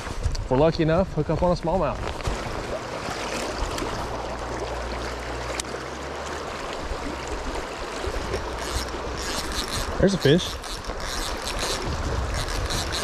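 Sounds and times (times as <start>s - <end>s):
creek water flowing over rocks: 1.6s - 13.0s.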